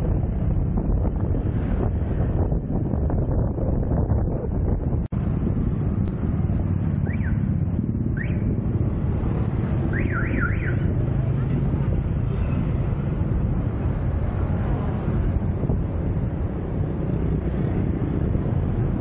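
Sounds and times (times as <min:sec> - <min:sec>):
wind buffeting microphone: 0:00.0 - 0:10.0, 0:10.8 - 0:19.0.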